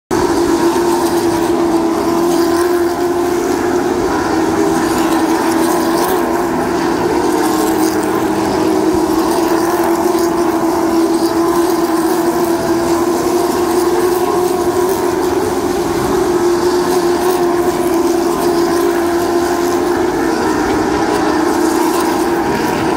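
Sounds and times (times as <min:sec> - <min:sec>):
race car engines droning: 0:00.1 - 0:22.9.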